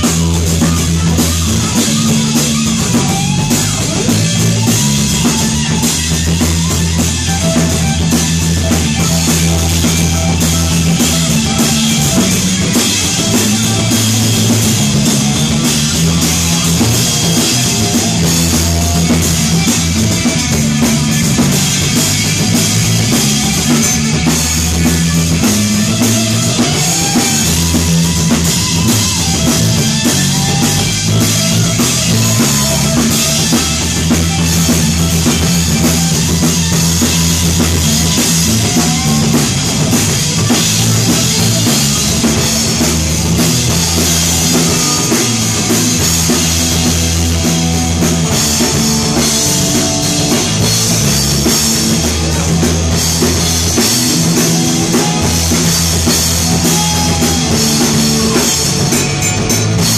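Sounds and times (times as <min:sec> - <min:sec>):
bass drum and snare: 0:00.0 - 0:59.9
rock band playing: 0:00.0 - 0:59.9.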